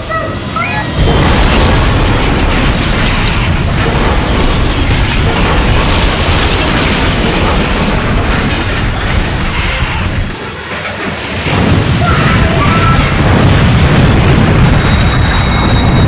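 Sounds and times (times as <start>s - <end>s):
explosion booming rumble: 0.9s - 10.4s, 11.2s - 16.0s.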